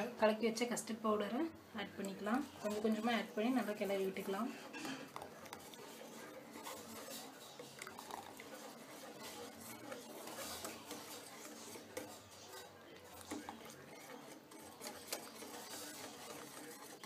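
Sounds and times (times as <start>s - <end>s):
whisk ticking against steel pan: 2.0s - 17.0s.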